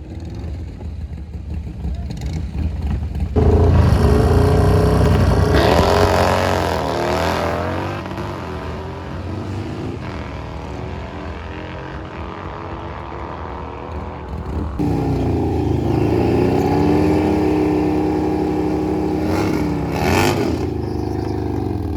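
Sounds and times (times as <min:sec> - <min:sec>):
racing engine at full throttle: 0:01.6 - 0:21.9.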